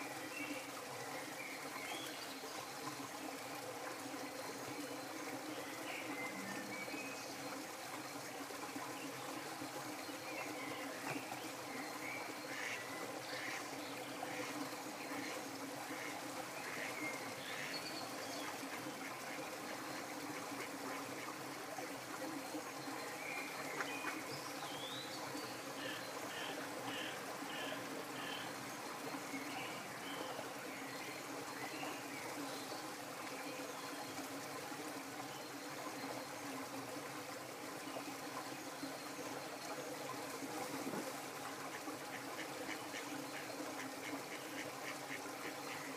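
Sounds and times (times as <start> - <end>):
flowing water: 0.0 - 45.9.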